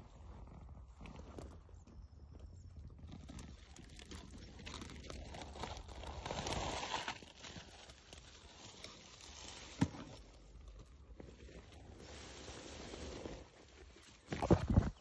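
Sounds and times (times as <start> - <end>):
rustling: 2.9 - 15.0.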